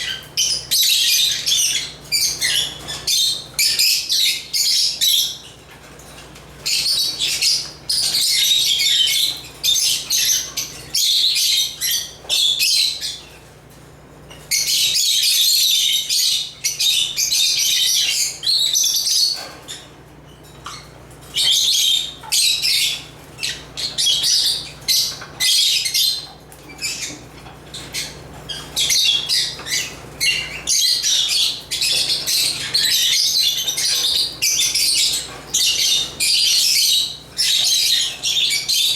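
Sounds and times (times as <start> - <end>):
lovebirds chattering and chirping: 0.0 - 38.9.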